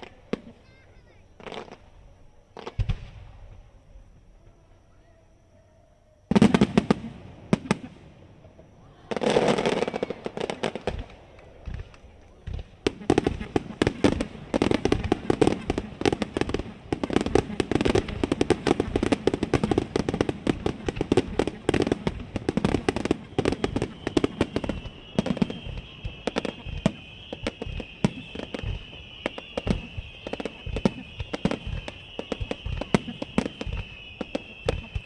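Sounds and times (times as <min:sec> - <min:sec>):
firework shells bursting: 0:06.3 - 0:35.0.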